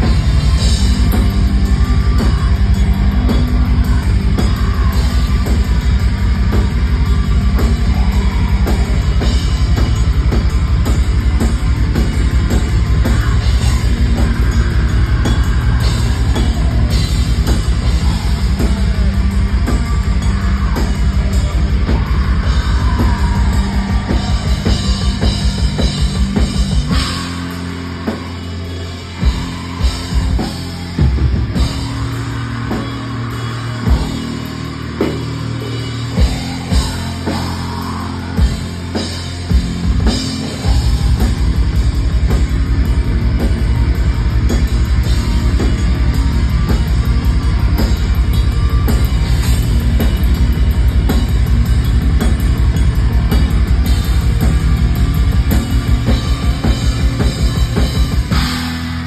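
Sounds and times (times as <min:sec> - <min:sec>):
distorted electric guitars: 0:00.0 - 0:59.0
fast dense drumming: 0:00.0 - 0:59.0.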